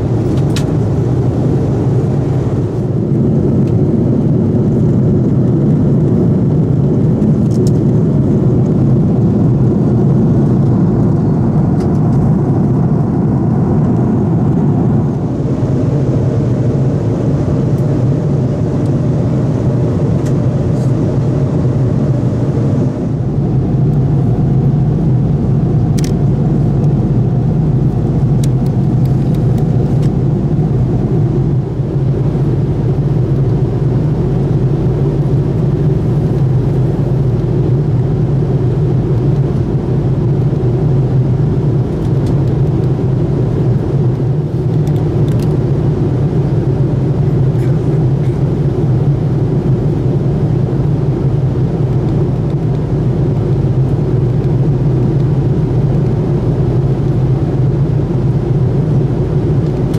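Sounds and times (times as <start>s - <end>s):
jet engine drone: 0.0s - 59.9s.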